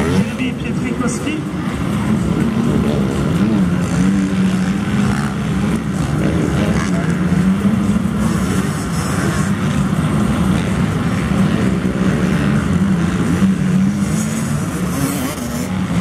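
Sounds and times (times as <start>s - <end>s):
motocross bike engines: 0.0s - 16.0s.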